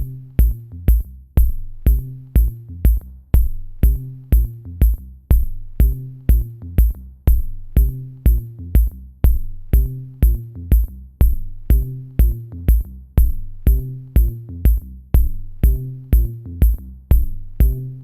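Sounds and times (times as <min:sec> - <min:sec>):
electronic music with drum-machine beat: 0:00.0 - 0:18.0
held low bass notes: 0:00.0 - 0:18.0.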